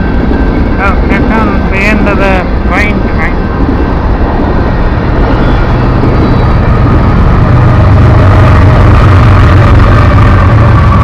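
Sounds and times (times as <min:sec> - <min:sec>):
diesel locomotive engine rumble: 0:00.0 - 0:11.0
train rolling noise: 0:00.0 - 0:11.0.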